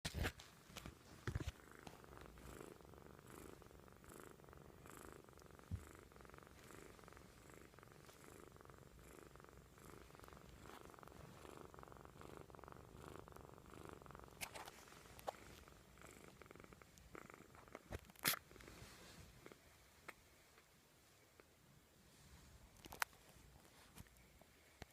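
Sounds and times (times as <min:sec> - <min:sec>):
kitten snoring faintly: 0:01.0 - 0:21.4.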